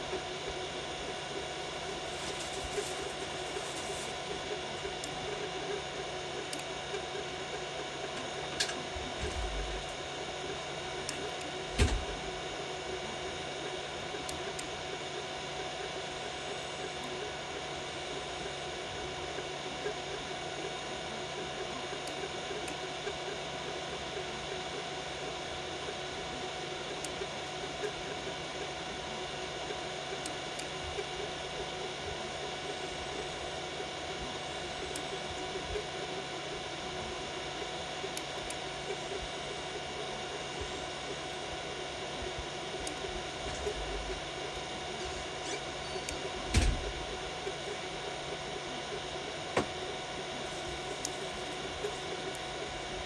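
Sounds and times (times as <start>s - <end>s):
motors and fans humming: 0.0s - 53.0s.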